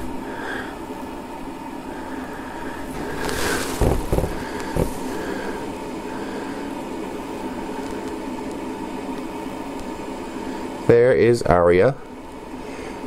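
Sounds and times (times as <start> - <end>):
mechanical room hum: 0.0 - 13.0.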